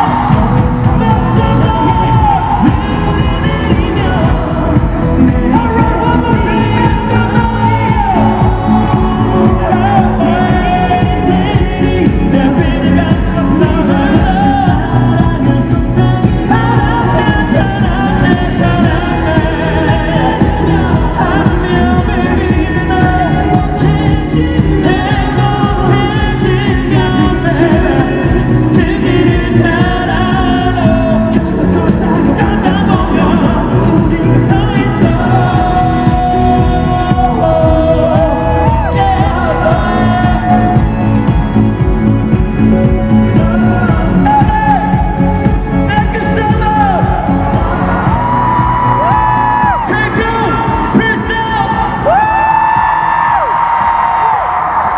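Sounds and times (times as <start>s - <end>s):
live band playing: 0.0s - 54.9s
man singing a pop ballad: 0.0s - 54.9s.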